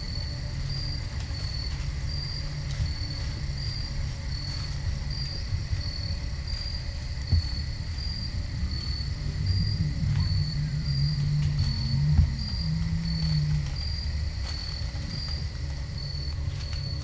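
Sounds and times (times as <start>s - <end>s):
crickets chirping: 0.0s - 17.0s
low rumble: 0.0s - 17.0s.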